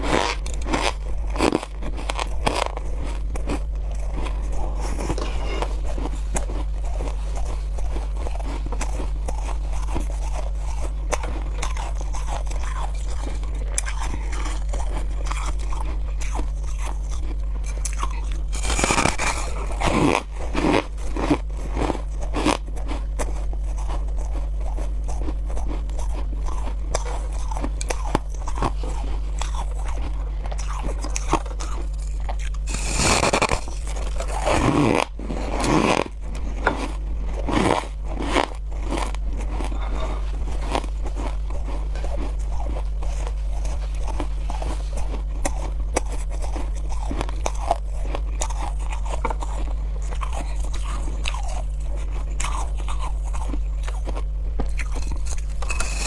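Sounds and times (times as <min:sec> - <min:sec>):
chewing crunchy ice: 0:00.0 - 0:56.0
low hum: 0:00.0 - 0:56.0.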